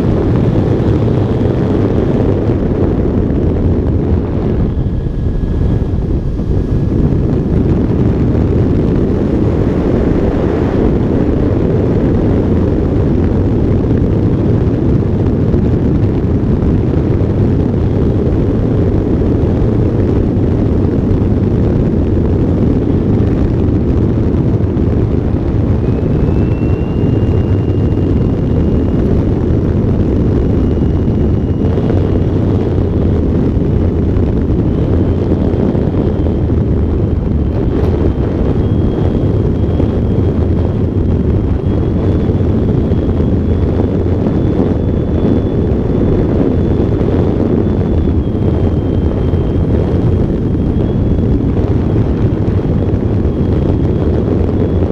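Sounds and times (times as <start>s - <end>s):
faint thin whine: 0.0s - 54.9s
wind rush and buffeting: 0.0s - 54.9s.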